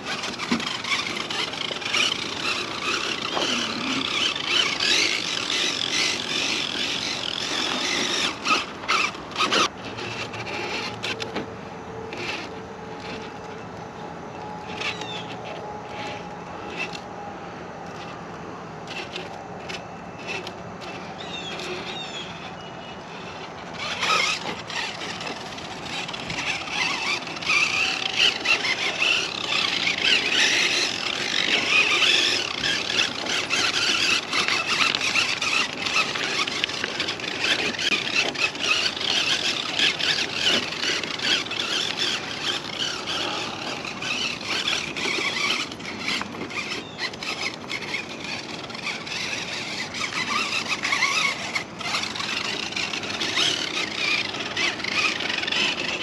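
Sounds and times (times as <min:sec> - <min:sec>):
electric motor and gears whining: 0:00.0 - 0:56.0
tyres scraping and grinding: 0:00.0 - 0:56.0.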